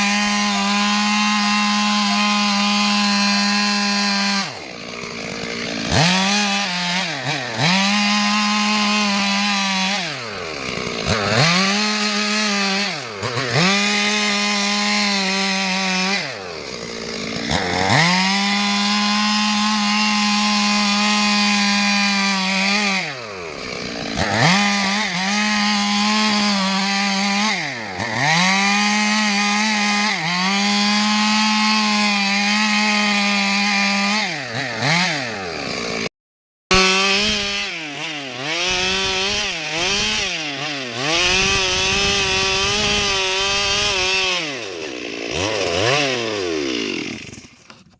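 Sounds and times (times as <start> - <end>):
chainsaw cutting wood: 0.0 - 36.1, 36.7 - 47.9.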